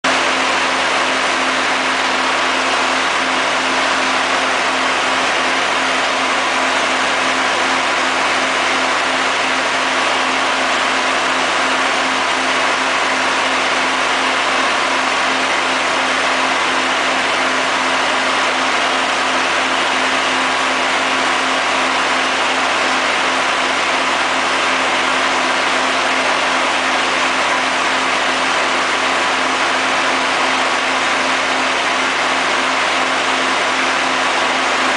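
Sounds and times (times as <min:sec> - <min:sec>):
machine engine humming: 0:00.1 - 0:34.9.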